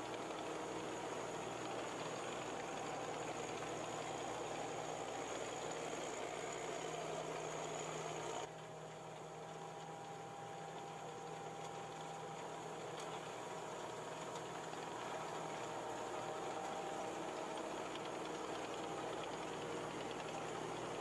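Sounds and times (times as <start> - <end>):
combine harvester engine drone: 0.0 - 21.0.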